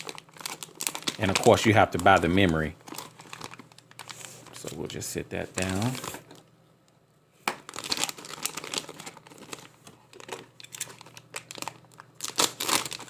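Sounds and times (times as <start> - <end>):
packaging crinkling and rustling: 0.0 - 6.5, 7.5 - 13.0.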